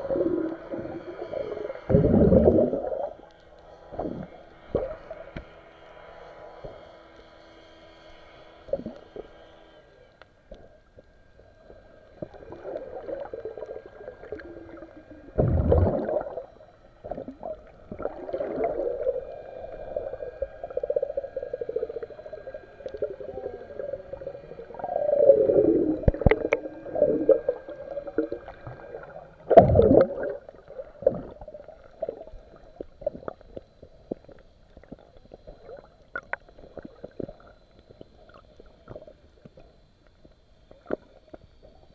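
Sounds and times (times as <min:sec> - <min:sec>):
muffled underwater water noise: 0:00.0 - 0:41.9.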